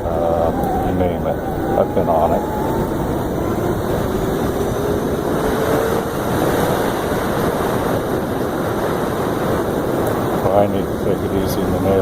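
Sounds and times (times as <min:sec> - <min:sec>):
electric motor whine: 0:00.0 - 0:11.8
wind rushing over microphone: 0:00.0 - 0:12.0.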